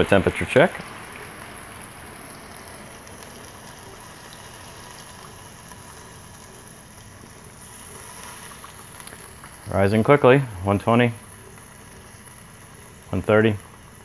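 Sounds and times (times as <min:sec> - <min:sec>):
steak sizzling: 0:00.0 - 0:14.0.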